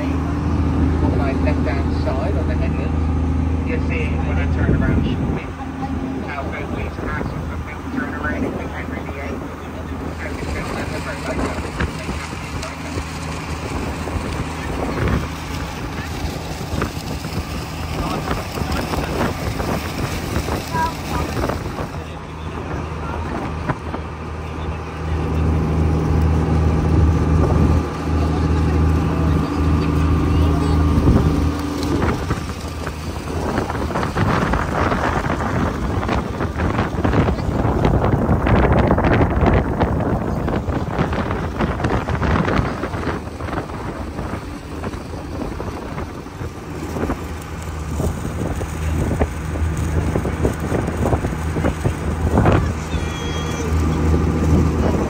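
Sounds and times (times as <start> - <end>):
boat engine droning: 0.0 - 55.0
wind buffeting microphone: 0.0 - 55.0.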